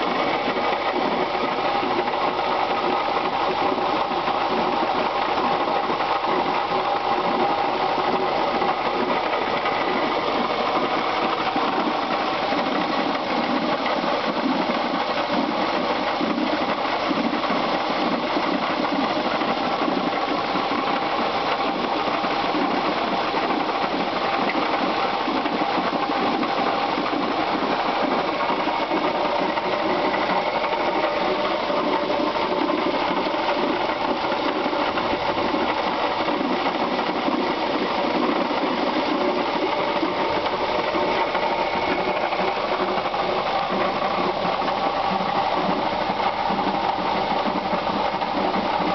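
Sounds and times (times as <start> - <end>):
engine knocking clatter: 0.0 - 48.9.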